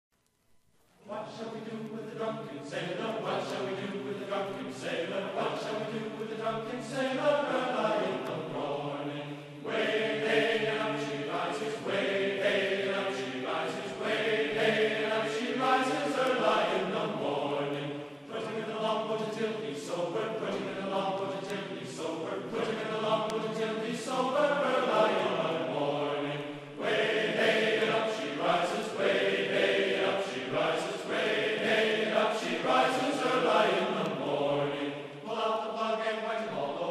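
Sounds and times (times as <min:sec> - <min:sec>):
choir-like chanting voices: 0:01.0 - 0:36.9.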